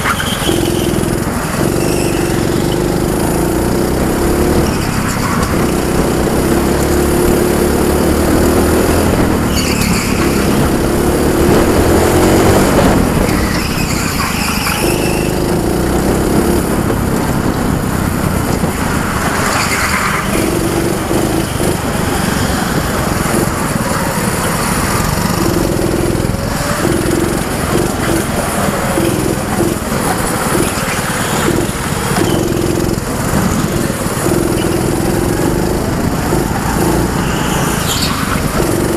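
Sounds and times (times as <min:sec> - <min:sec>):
go-kart engine running hard: 0:00.0 - 0:38.9
tyres squealing: 0:00.0 - 0:38.9.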